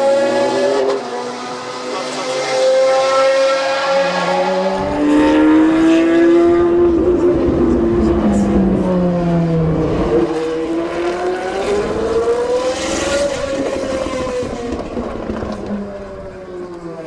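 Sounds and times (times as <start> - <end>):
race car engine pulling: 0.0 - 17.0.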